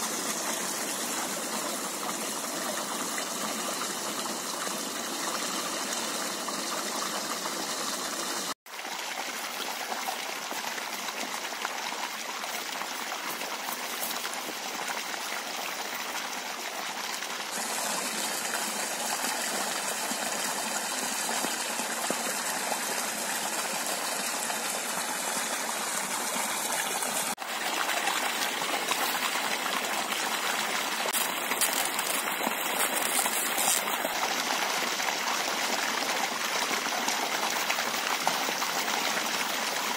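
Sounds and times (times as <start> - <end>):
water gushing into pond: 0.0 - 39.9.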